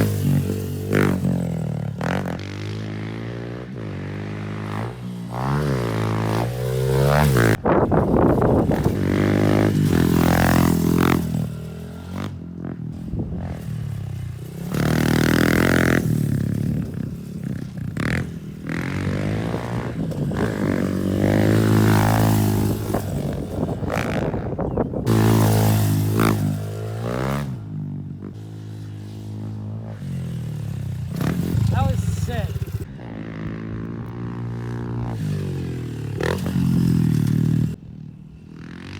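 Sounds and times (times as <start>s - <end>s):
pit bike engine revving: 0.0s - 37.8s.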